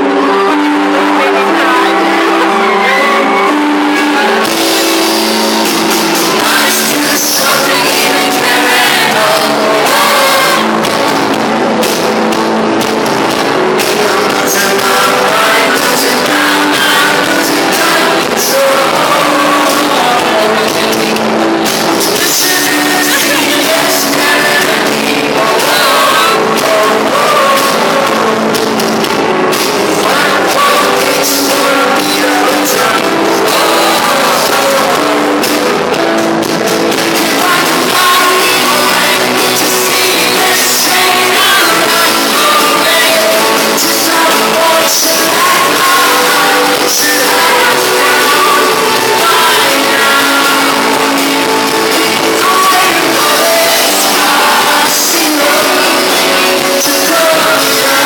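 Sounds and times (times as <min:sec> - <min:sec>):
lead singer's voice: 0:00.0 - 0:58.0
rock band playing live: 0:00.0 - 0:58.0.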